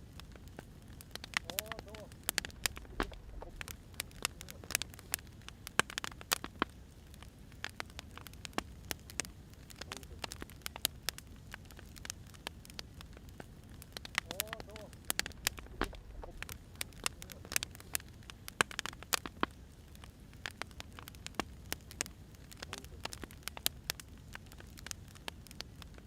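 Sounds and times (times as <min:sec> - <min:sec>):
firewood crackling and popping: 0:00.0 - 0:26.0
low rumble of flames: 0:00.0 - 0:26.0.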